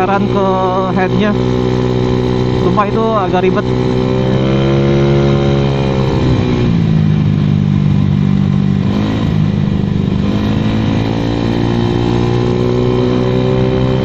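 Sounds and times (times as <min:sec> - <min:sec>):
scooter engine and exhaust: 0:00.0 - 0:14.0.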